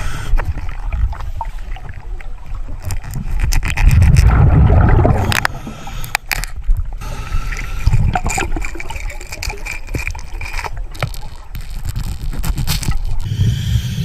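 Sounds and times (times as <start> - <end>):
underwater bubbles gurgling: 0.1 - 11.6.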